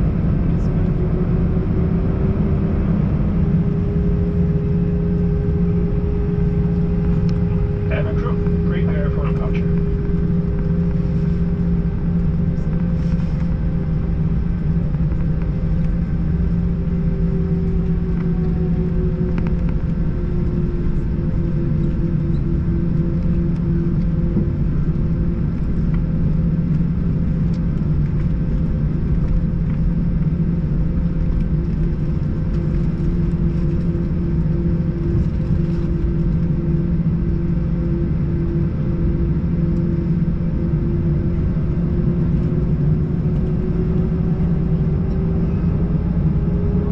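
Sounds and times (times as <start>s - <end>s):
aircraft engine drone: 0.0s - 46.9s
constant cabin hums: 0.0s - 46.9s.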